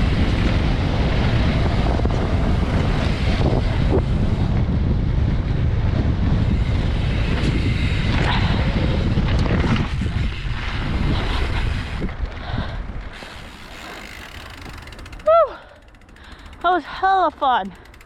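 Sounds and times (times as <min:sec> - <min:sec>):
mountain bike rattling on dirt trail: 0:00.0 - 0:18.0
wind buffeting microphone: 0:00.0 - 0:18.0.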